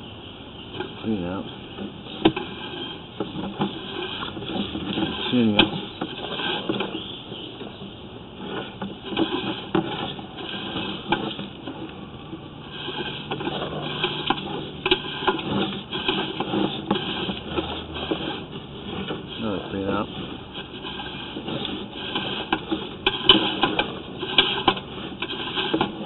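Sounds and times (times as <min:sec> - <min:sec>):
cable and reel clicking and rattling: 0:00.7 - 0:26.0.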